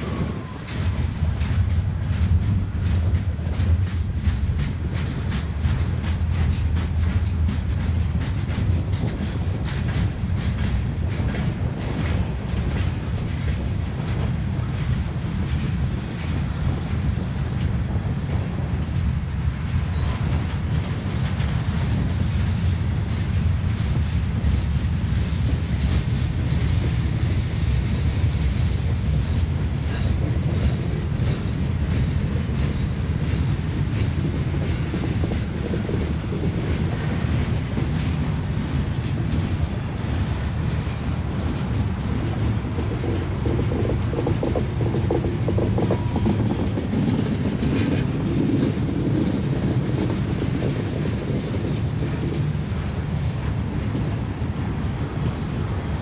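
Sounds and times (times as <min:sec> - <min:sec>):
freight train rumbling past: 0:00.0 - 0:56.0
wheels clacking over track: 0:00.0 - 0:56.0.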